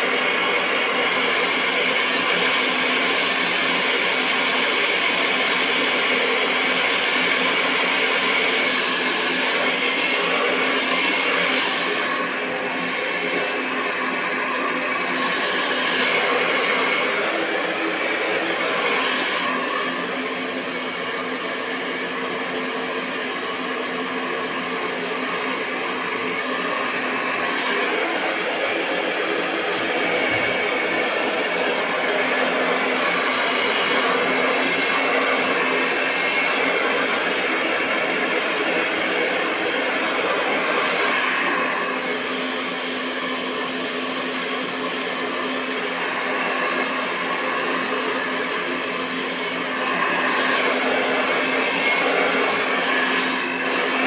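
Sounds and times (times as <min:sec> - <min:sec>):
hair dryer blowing air: 0:00.0 - 0:54.0.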